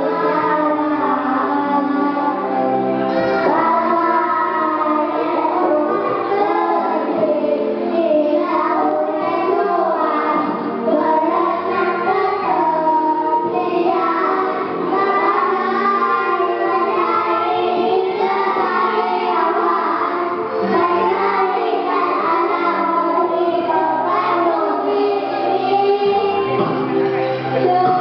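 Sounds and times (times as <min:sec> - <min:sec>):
backing music: 0:00.0 - 0:28.0
children singing together: 0:00.0 - 0:28.0.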